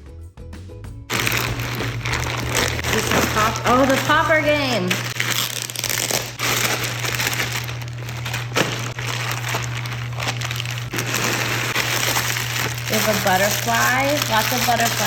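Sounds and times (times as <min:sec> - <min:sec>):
plastic packaging crinkling: 0:01.1 - 0:15.0.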